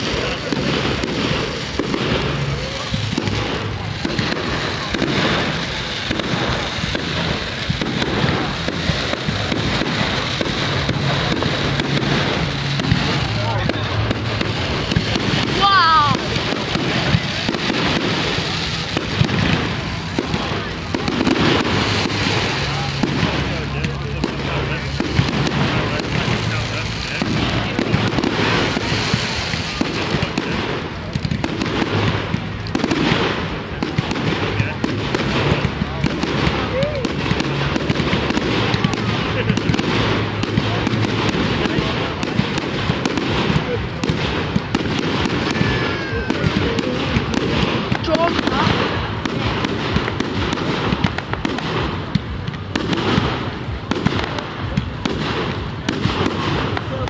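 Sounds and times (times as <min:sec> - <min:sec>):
continuous rush of noise: 0:00.0 - 0:57.0
fireworks bangs: 0:00.0 - 0:57.0
fireworks crackle: 0:00.0 - 0:57.0.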